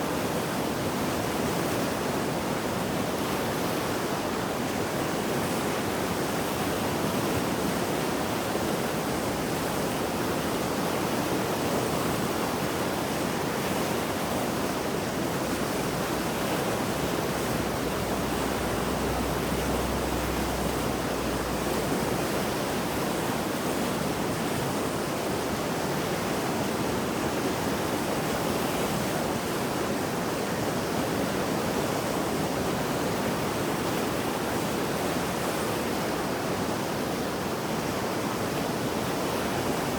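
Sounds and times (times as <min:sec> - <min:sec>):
river rushing water roar: 0:00.0 - 0:39.9.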